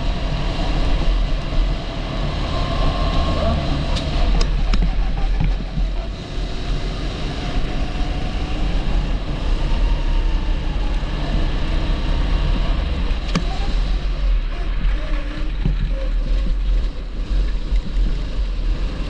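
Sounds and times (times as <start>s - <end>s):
kart engine running: 0.0s - 19.0s.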